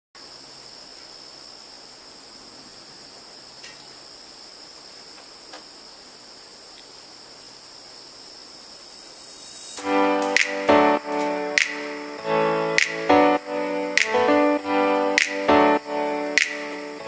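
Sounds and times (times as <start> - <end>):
insect chorus chirring: 0.2 - 17.0.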